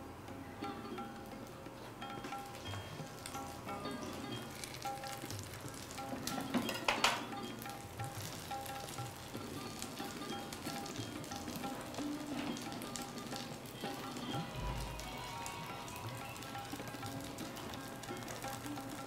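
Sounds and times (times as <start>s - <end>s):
butter sizzling on hot griddle: 2.0s - 19.0s.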